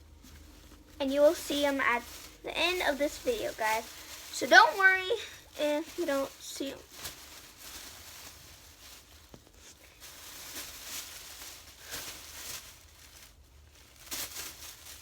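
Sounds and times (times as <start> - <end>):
hands rummaging through toy bag: 0.0 - 15.0.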